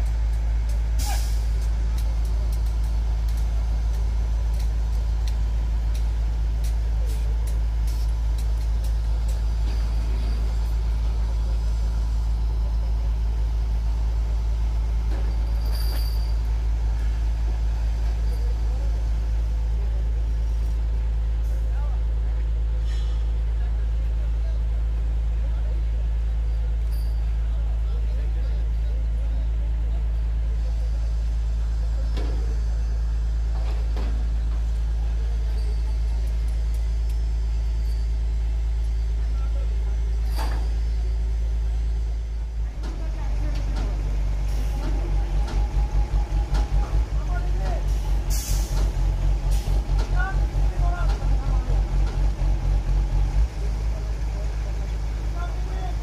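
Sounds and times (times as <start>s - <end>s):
crane diesel engines droning: 0.0s - 56.0s.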